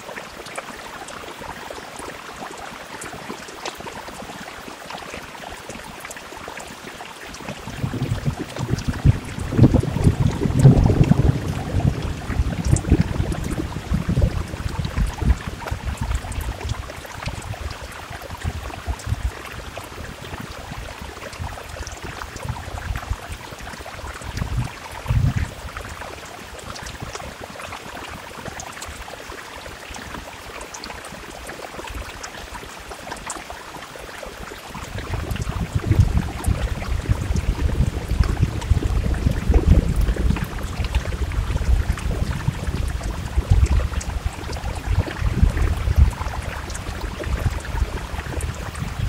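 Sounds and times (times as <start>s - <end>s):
raindrops ticking: 0.0s - 49.0s
steady rain: 0.0s - 49.0s.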